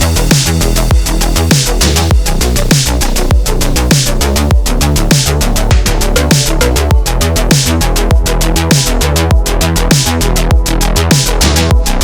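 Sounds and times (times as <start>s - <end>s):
bass drops falling in pitch: 0.0s - 12.0s
electronic dance music: 0.0s - 12.0s.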